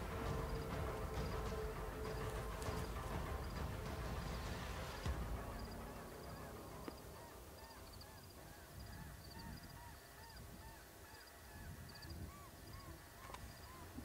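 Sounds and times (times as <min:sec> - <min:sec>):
distant birds honking: 0:00.0 - 0:14.0.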